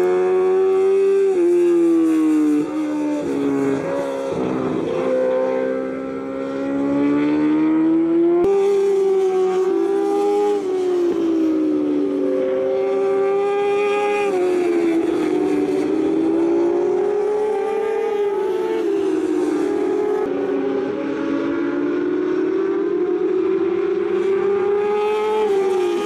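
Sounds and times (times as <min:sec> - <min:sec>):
racing motorcycle engines at high revs: 0:00.0 - 0:26.0.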